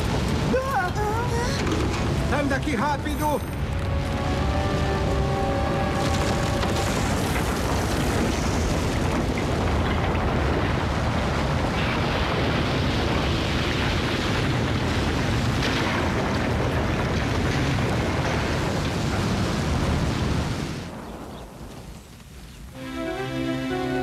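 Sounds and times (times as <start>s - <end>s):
deep earthquake rumble: 0.0s - 22.7s.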